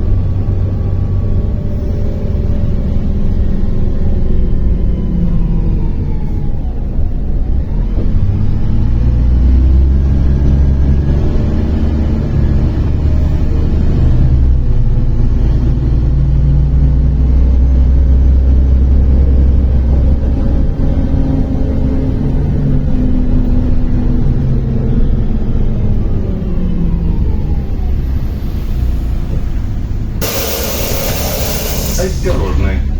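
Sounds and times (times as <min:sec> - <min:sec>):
bus engine rumble: 0:00.0 - 0:32.9.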